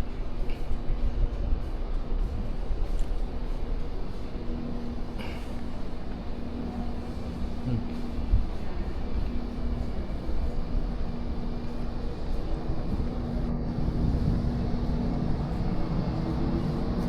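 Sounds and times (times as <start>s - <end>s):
steady low rumble: 0.2s - 17.0s
machinery hum: 1.8s - 17.0s.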